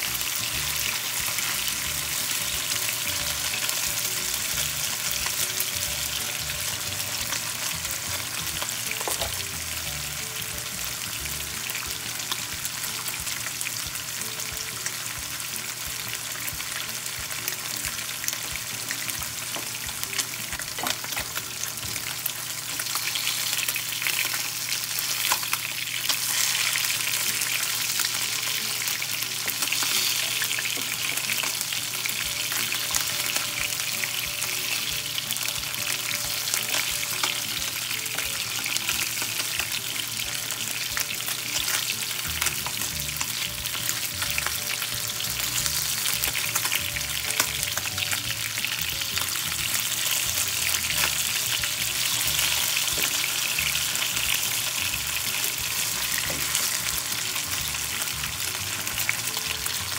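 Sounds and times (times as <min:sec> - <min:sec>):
fish sizzling in a pan: 0:00.0 - 0:59.9.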